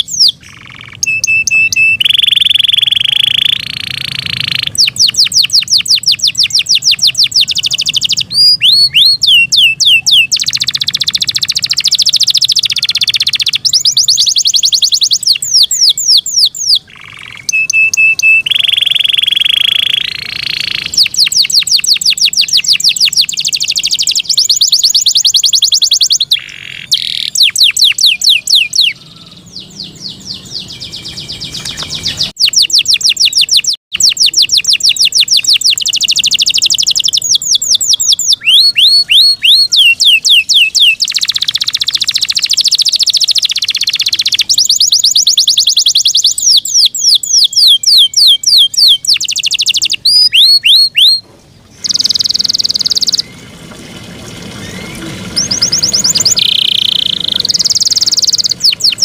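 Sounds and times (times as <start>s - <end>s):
canary singing: 0.0s - 53.5s, 54.6s - 59.0s.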